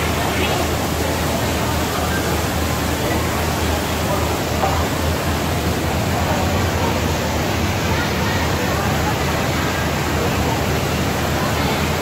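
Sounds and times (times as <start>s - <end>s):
rush of crowd noise: 0.0s - 12.0s.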